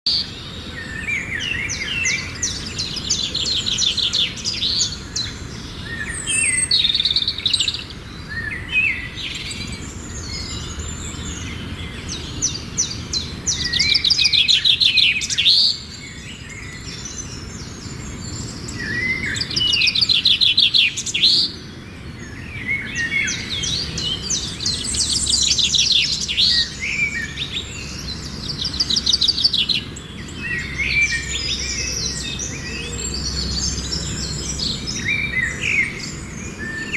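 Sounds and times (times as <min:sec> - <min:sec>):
songbird trilling and chirping: 0:00.1 - 0:36.9.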